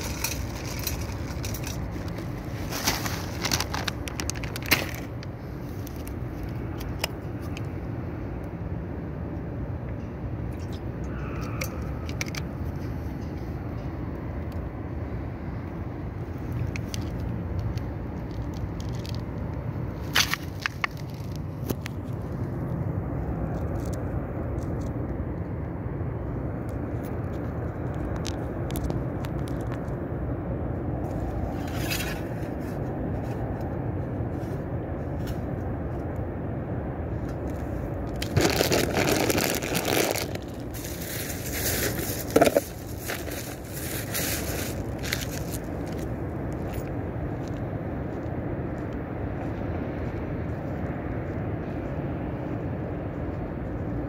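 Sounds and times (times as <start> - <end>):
city road traffic rumble: 0.0 - 54.0.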